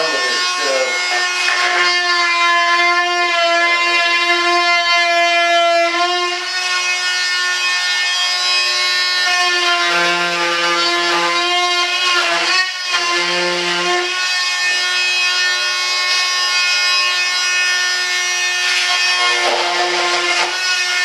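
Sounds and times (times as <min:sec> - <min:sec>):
rotary tool whining: 0:00.0 - 0:21.0.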